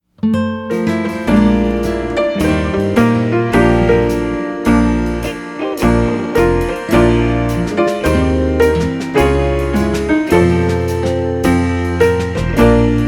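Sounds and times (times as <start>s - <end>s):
piano with steady bass: 0.2s - 13.0s.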